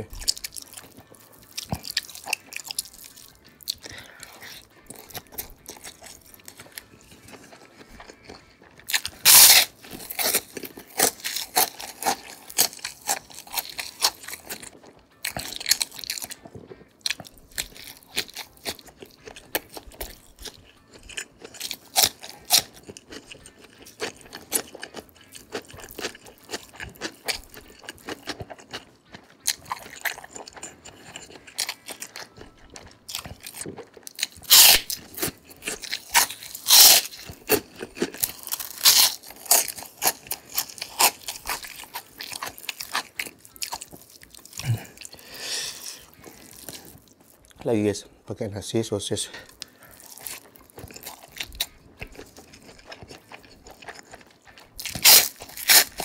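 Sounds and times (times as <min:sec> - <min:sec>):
person chewing crisp food: 0:00.0 - 0:47.9, 0:49.2 - 0:56.0.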